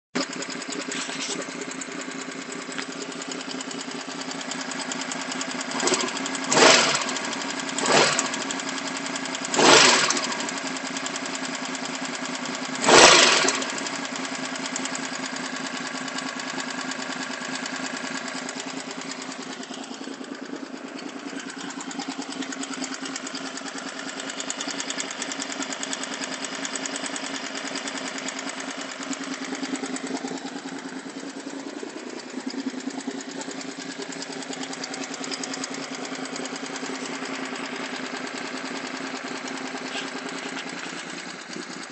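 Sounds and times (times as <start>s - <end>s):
motorcycle engine idling: 0.2s - 41.9s.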